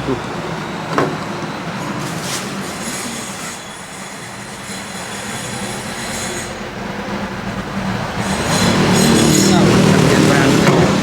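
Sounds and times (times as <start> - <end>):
high-pitched squeal: 0.0 - 11.0
truck engine hum: 0.0 - 11.0.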